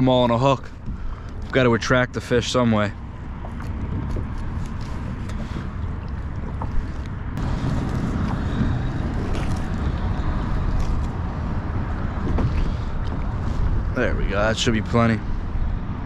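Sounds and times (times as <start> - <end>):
wind noise on microphone: 3.1 - 16.0.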